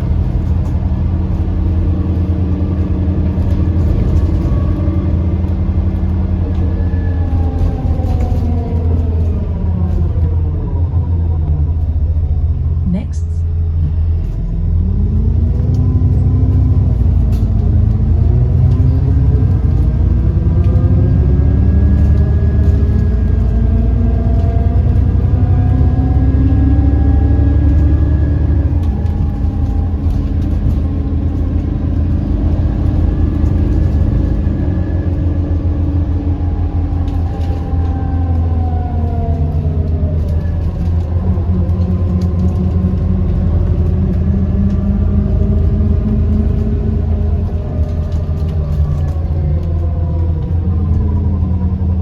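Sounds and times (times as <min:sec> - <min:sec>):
bus engine rumble and whine: 0:00.0 - 0:52.0.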